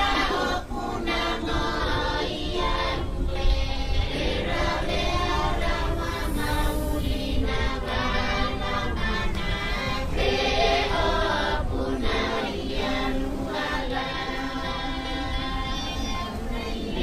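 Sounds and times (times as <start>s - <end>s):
choir singing with music: 0.0s - 17.0s.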